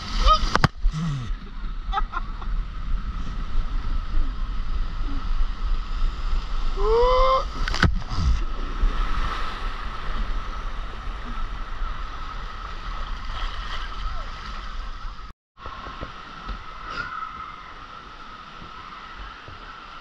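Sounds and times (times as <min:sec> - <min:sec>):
rushing water: 0:03.1 - 0:20.0.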